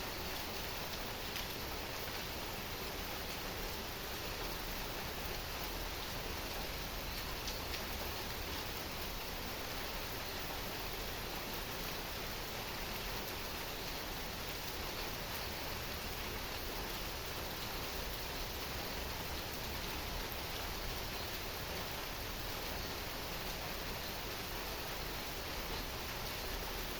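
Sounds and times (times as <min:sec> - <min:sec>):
heavy rain hiss: 0:00.0 - 0:26.9.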